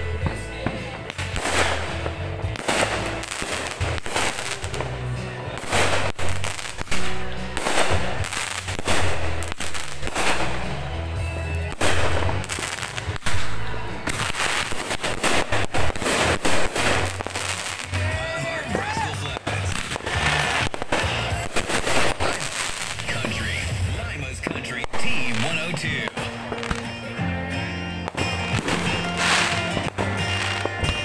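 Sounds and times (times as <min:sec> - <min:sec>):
fireworks banging: 0:00.0 - 0:31.0
fireworks crackling: 0:00.0 - 0:31.0.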